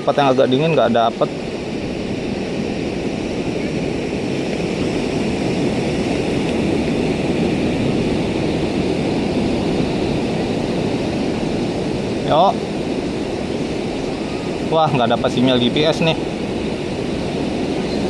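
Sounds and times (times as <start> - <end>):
surf rushing on rocks: 0.0 - 18.0
wind: 0.0 - 18.0.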